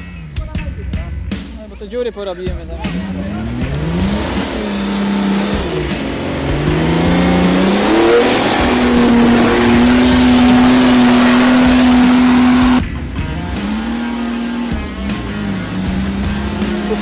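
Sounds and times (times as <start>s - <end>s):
off-road vehicle engine revving: 0.0s - 17.0s
wheels spinning in mud: 3.0s - 17.0s.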